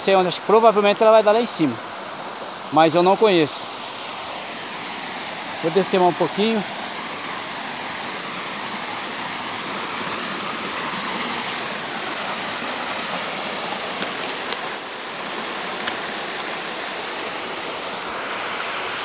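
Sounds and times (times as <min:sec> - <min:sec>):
small waterfall rushing: 0:00.0 - 0:19.0.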